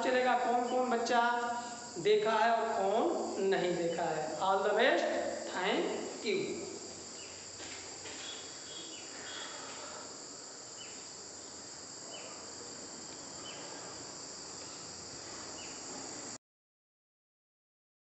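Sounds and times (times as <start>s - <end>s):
crickets chirring: 0.0s - 16.4s.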